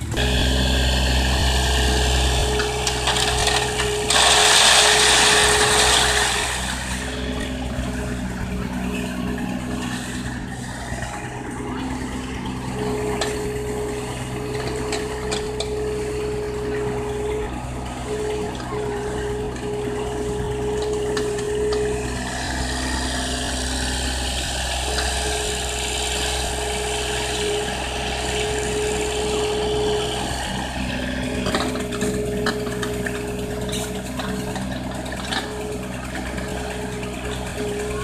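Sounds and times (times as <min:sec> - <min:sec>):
diesel engine running: 0:00.0 - 0:38.0
hydraulic whine: 0:00.0 - 0:38.0.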